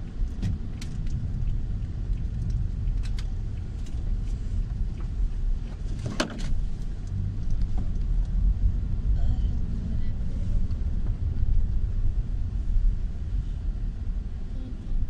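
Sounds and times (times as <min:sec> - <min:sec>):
vehicle rumble on road: 0:00.0 - 0:15.0.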